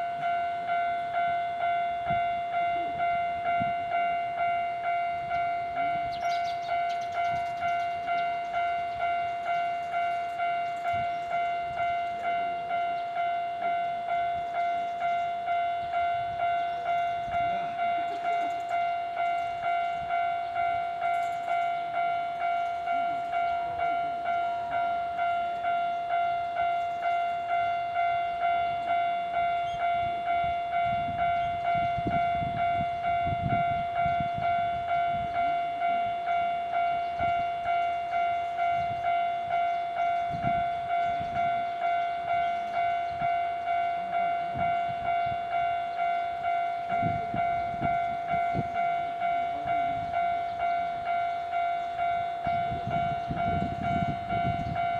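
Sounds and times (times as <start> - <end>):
level crossing bell dinging: 0.0 - 54.9.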